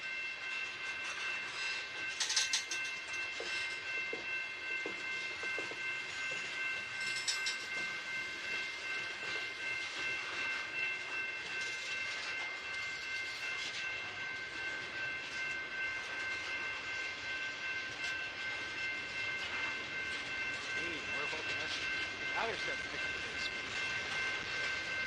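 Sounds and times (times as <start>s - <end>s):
freight train rolling on rails: 0.0s - 25.0s
high-pitched ringing tone: 0.0s - 25.0s.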